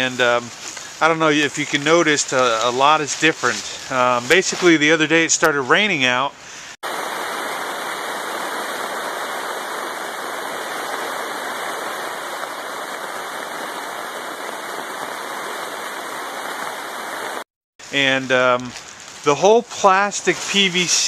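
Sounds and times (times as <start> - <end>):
rain on a plastic tarp: 0.0 - 5.4, 6.8 - 21.0.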